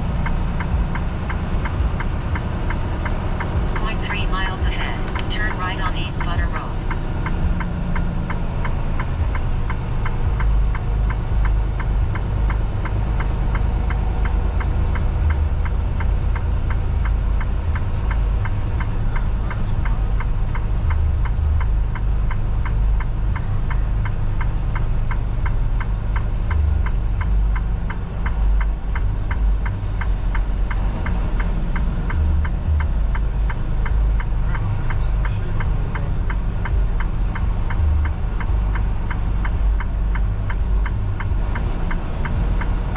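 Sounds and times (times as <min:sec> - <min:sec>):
diesel engine rumble in cab: 0:00.0 - 0:42.9
rapid ticking: 0:00.2 - 0:42.9.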